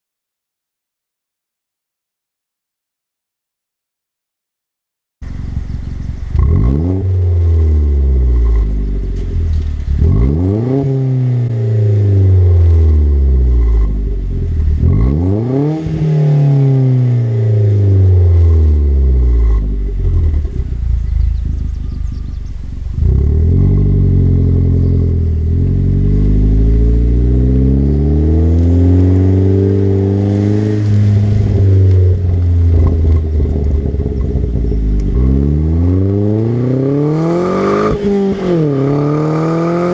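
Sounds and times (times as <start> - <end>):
car engine revving: 5.2 - 39.9.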